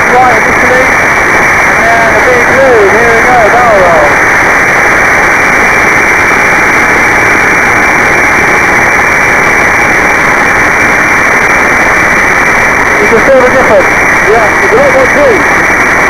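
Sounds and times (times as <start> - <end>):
muffled aircraft engine drone: 0.0 - 16.0.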